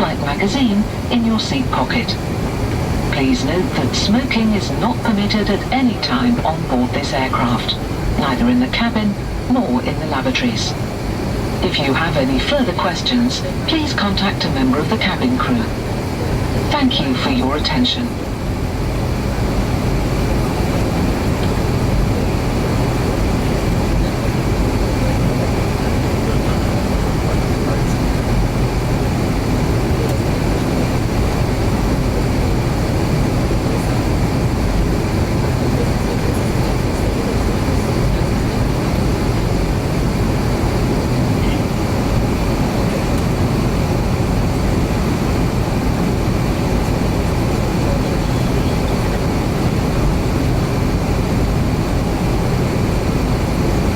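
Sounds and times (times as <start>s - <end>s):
low jet engine rumble: 0.0s - 53.9s.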